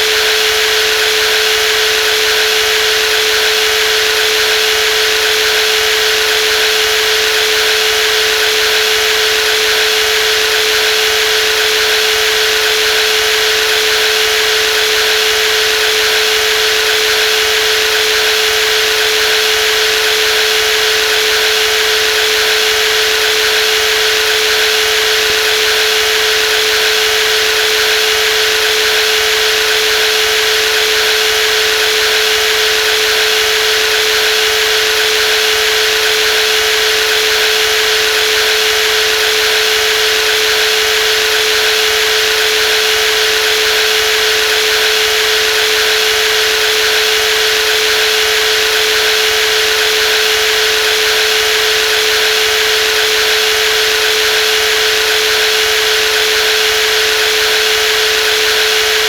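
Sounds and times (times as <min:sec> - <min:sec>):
jigsaw motor whine: 0:00.0 - 0:59.0.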